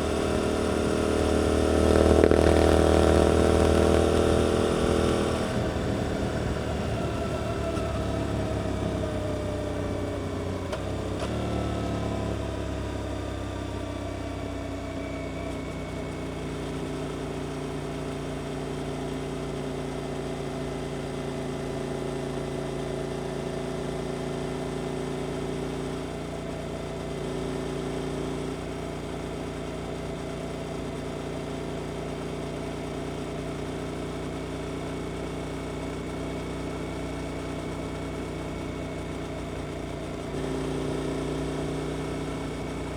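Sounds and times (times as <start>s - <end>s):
motorcycle engine: 0.0s - 42.9s.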